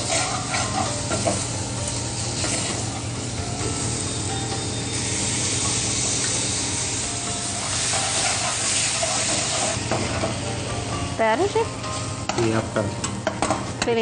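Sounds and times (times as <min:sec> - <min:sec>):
mushrooms sizzling in oil: 0:00.0 - 0:14.0.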